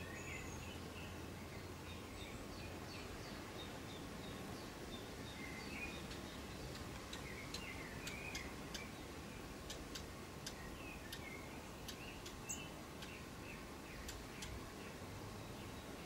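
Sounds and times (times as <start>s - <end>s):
faint steady hiss: 0.0s - 16.0s
small birds chirping: 0.0s - 16.0s.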